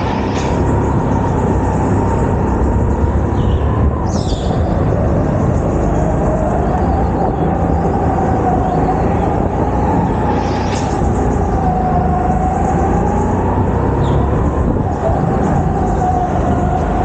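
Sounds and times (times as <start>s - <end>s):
go-kart engine rumble and whine: 0.0s - 17.0s.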